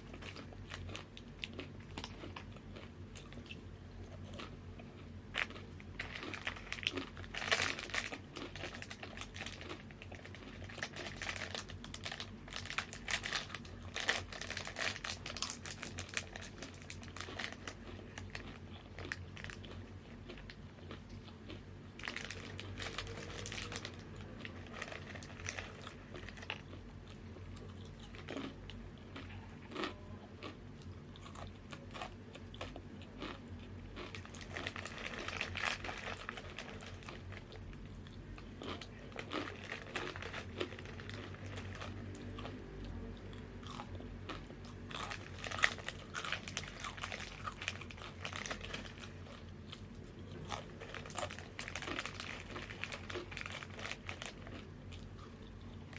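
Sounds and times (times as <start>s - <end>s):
crunching and chewing chips: 0.0s - 55.9s.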